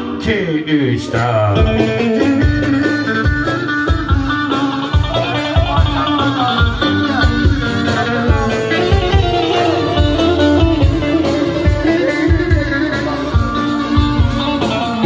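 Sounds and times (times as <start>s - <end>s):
steady drum beat: 1.1s - 15.0s
plucked long-necked lute: 1.6s - 15.0s.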